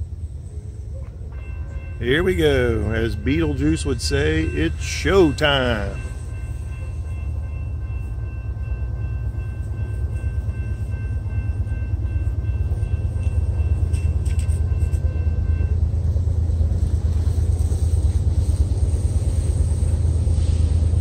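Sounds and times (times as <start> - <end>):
diesel freight train rumbling: 0.0 - 21.0.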